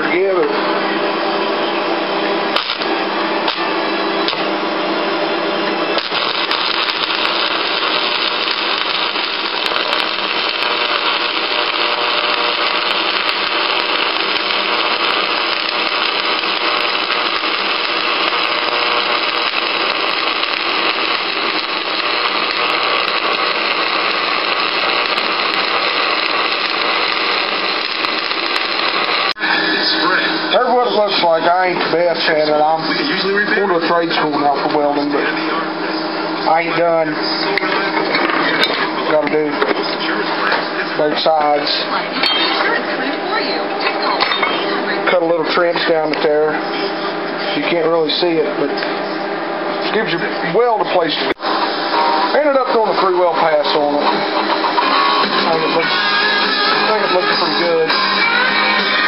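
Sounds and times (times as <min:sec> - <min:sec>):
welding arc hissing and popping: 0:02.5 - 0:04.5, 0:05.8 - 0:35.3, 0:36.4 - 0:46.6, 0:49.9 - 0:59.0.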